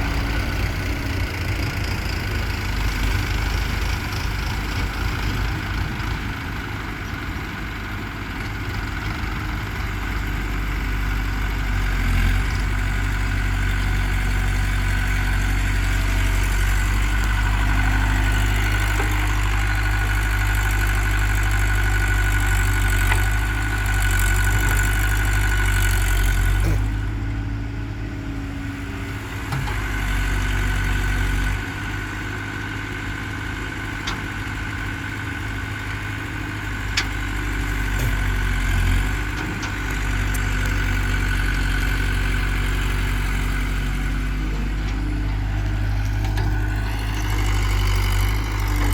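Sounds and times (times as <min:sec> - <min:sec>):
diesel engines droning: 0:00.0 - 0:48.9.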